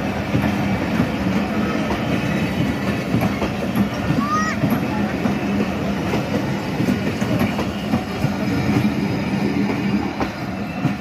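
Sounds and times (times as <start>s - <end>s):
clacks over rail joints: 0.0s - 11.0s
train wheels rumbling: 0.0s - 11.0s.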